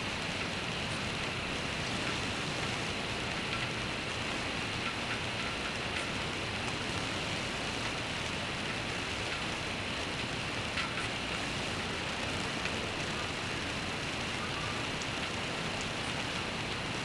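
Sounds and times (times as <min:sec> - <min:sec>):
rainfall hiss: 0:00.0 - 0:17.0.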